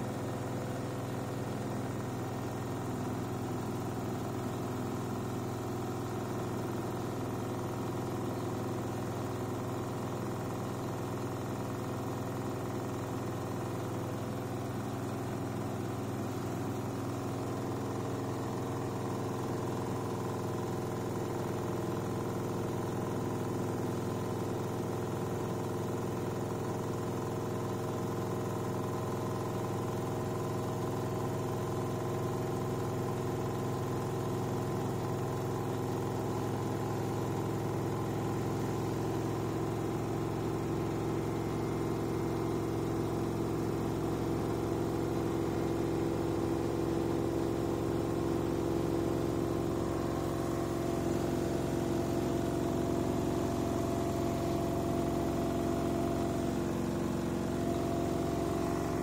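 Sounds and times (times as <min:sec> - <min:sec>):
washing machine drain pump hum: 0:00.0 - 0:59.0.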